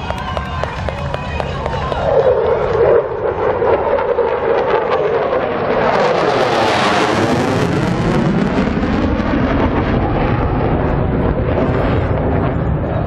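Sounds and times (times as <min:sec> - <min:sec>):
jet roaring overhead: 0:00.0 - 0:13.0.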